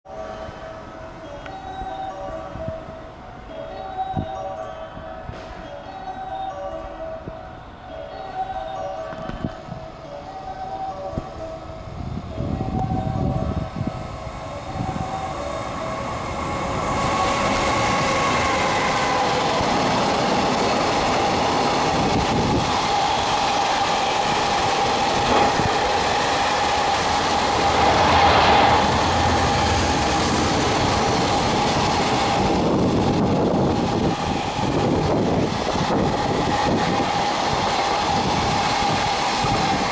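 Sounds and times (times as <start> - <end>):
freight train passing: 0.1 - 39.9.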